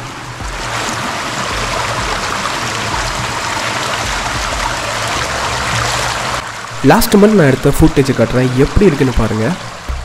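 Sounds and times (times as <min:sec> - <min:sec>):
shallow water rushing: 0:00.0 - 0:10.0.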